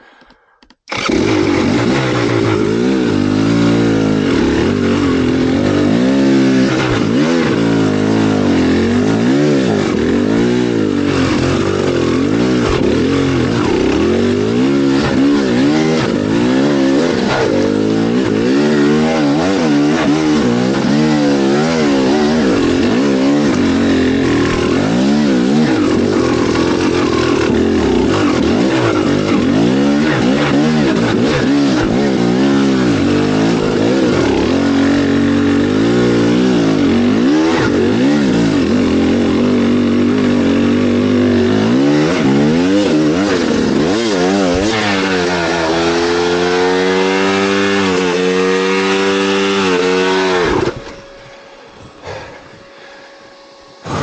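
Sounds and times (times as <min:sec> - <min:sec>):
vehicle engine revving: 0:00.9 - 0:52.6, 0:53.7 - 0:54.0.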